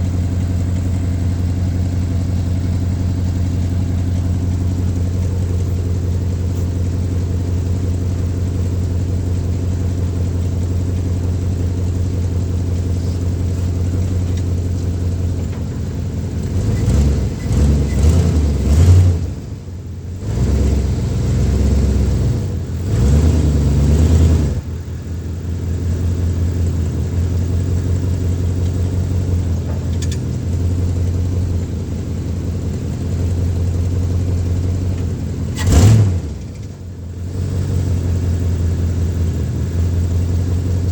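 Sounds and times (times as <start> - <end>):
pickup engine idling and revving: 0.0 - 40.9.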